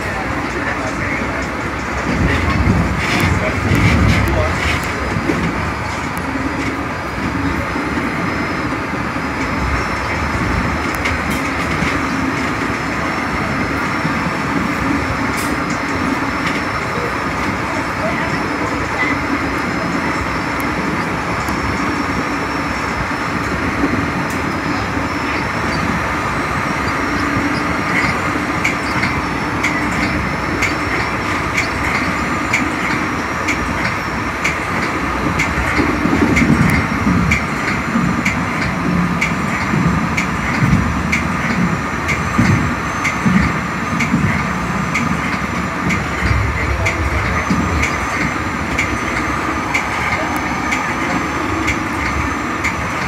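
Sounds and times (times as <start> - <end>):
train rumble and rail noise: 0.0 - 53.0.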